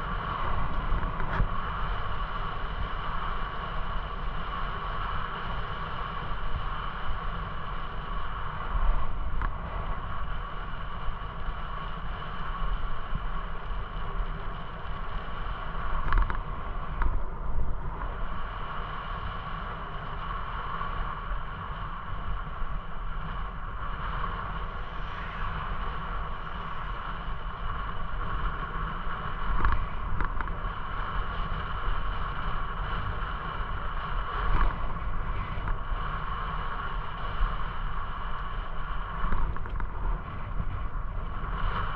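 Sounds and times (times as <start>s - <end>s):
bicycle tyre rumble on asphalt: 0.0s - 41.9s
steady whine: 0.0s - 41.9s
wind on microphone: 0.0s - 41.9s.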